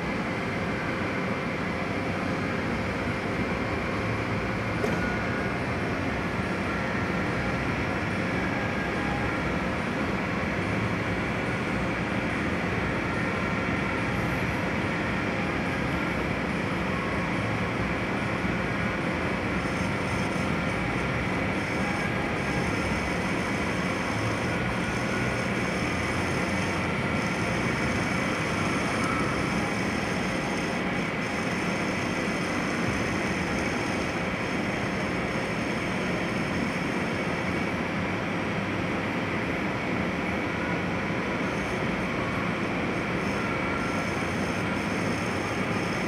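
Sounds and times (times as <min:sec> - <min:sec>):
metal lathe running: 0:01.1 - 0:46.0.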